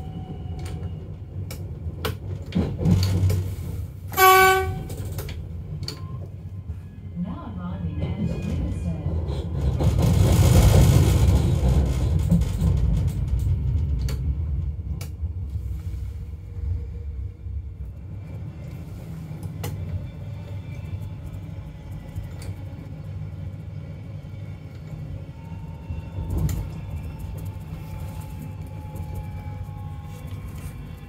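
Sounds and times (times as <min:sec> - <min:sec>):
electric train rumble: 0:00.0 - 0:31.0.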